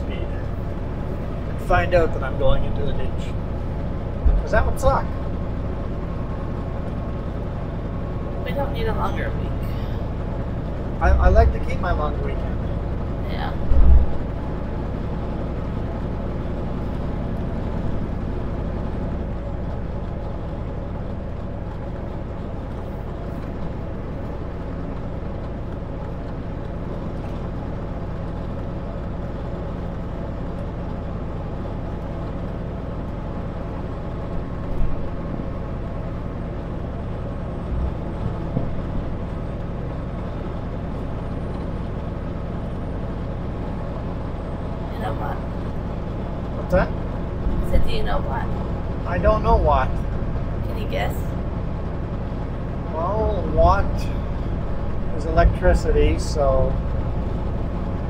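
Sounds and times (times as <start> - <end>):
road noise: 0.0 - 58.0
truck diesel engine cruising: 0.0 - 58.0.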